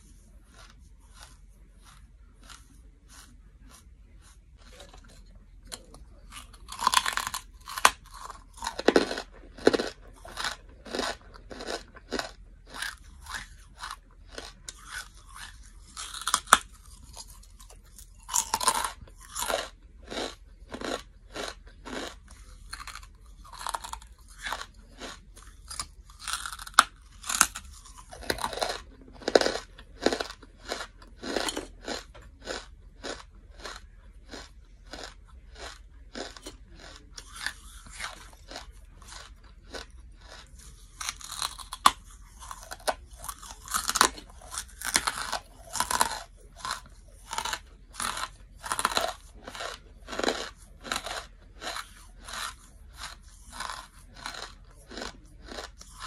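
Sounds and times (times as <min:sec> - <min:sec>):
crunchy chewing: 0:00.0 - 0:56.0
loud crunching bites: 0:05.7 - 0:56.0.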